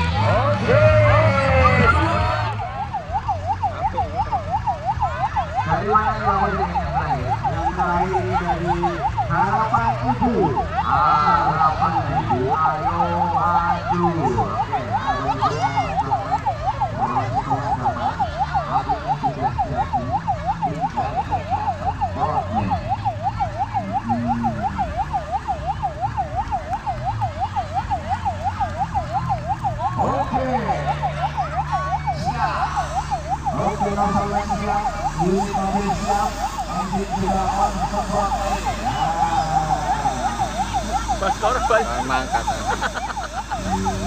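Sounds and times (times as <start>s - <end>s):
diesel engine rumble: 0.0s - 44.0s
fire truck siren wailing: 0.0s - 44.0s.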